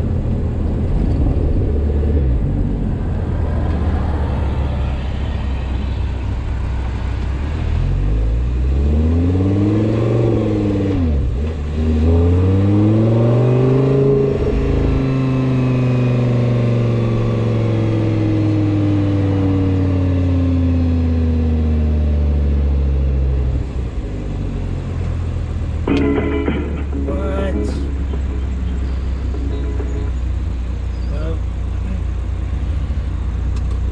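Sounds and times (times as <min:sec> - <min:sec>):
car engine revving: 0:00.0 - 0:33.9
high-pitched engine whine: 0:00.0 - 0:33.9.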